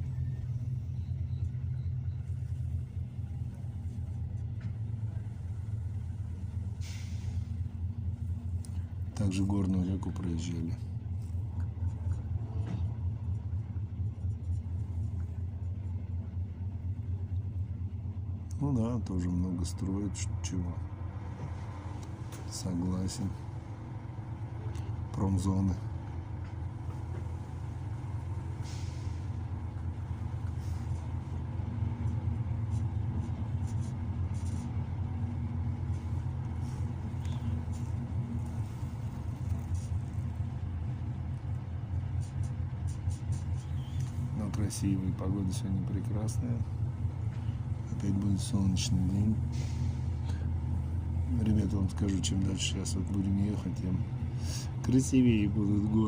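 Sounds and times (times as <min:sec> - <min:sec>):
freight train low rumble: 0:00.0 - 0:56.0.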